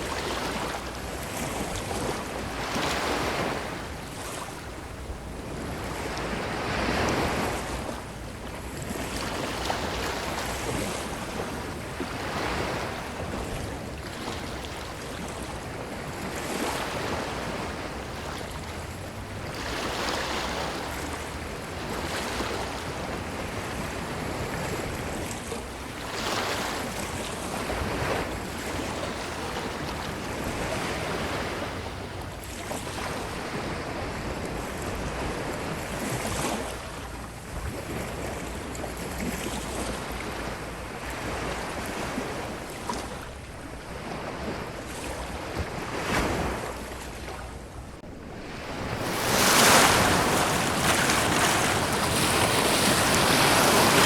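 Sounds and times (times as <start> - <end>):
ocean waves washing on beach: 0.0 - 54.0.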